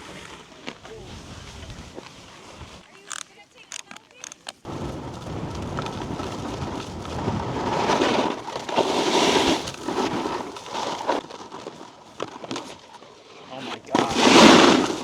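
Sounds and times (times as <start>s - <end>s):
snowboard scraping icy snow: 0.0s - 2.9s, 4.7s - 15.0s.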